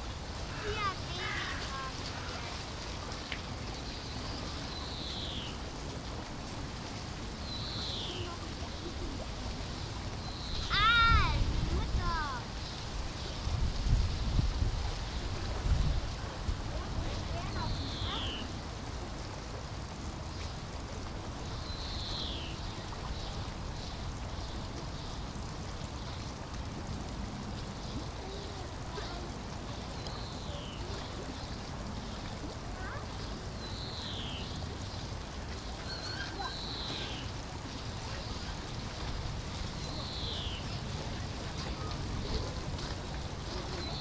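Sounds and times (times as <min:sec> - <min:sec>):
background noise: 0:00.0 - 0:44.0.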